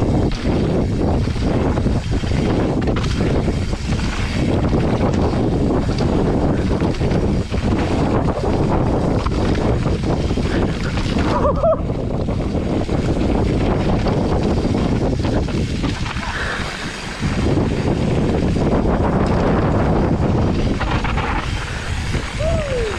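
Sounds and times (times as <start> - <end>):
bike rattling and knocking: 0.0 - 22.9
wind buffeting microphone: 0.0 - 22.9.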